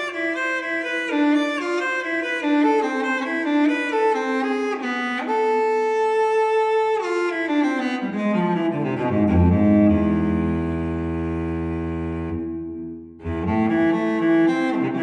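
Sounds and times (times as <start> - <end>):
bowed strings music: 0.0 - 15.0.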